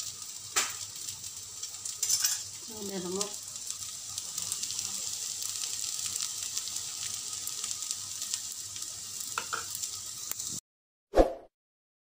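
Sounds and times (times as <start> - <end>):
rice sizzling in a pan: 0.0 - 10.6.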